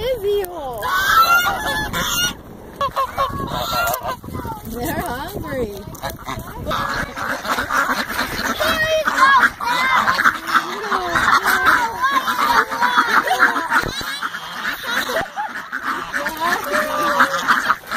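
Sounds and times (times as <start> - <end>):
ducks quacking: 0.0 - 17.9
geese honking: 0.3 - 17.9.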